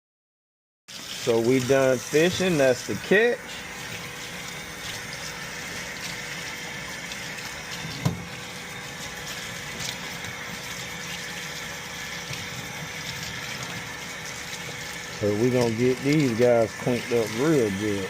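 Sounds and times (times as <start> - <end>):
water running from a tap: 0.9 - 18.0.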